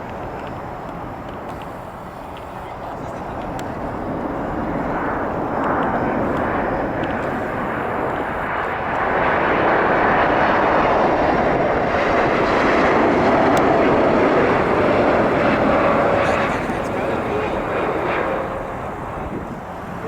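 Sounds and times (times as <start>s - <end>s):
faint engine whine: 0.0s - 20.0s
jet engines rushing: 0.0s - 20.0s.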